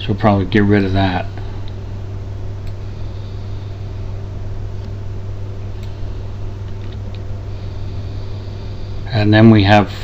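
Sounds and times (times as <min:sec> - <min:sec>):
low hum with hiss: 0:00.0 - 0:10.0.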